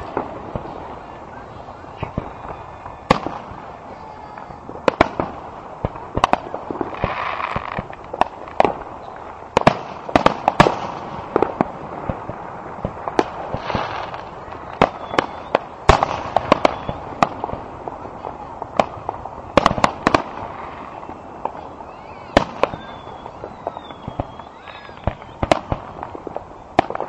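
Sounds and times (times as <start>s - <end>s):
fireworks bangs: 0.0s - 27.0s
fireworks hissing: 0.0s - 27.0s.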